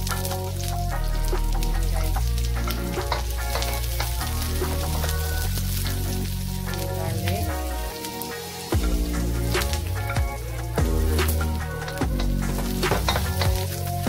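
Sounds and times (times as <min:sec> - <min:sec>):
background music with bass line: 0:00.0 - 0:14.0
food sizzling in oil: 0:00.0 - 0:14.0.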